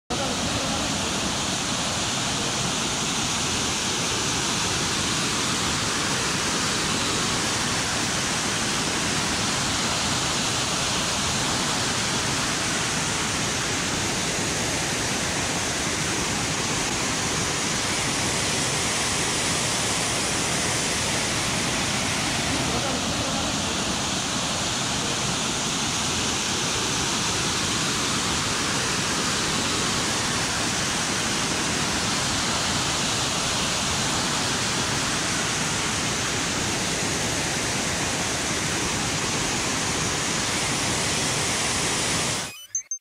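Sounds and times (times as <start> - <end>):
waterfall roaring: 0.1 - 42.5.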